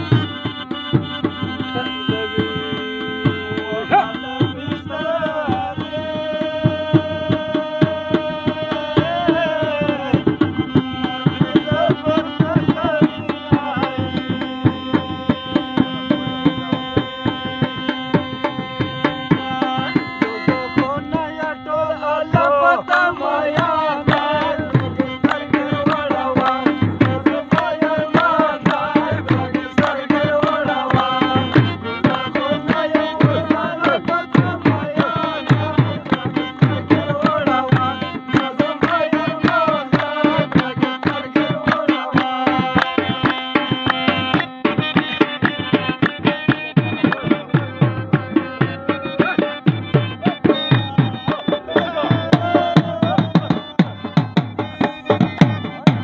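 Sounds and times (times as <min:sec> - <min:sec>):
barrel drum beat: 0:00.0 - 0:56.0
harmonium playing: 0:00.0 - 0:56.0
man singing: 0:00.0 - 0:56.0.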